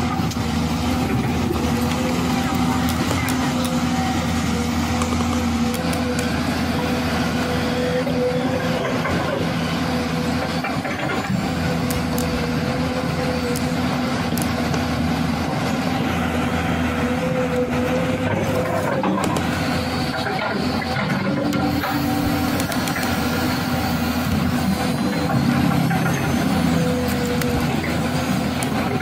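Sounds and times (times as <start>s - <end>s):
machine drone: 0.0s - 29.0s.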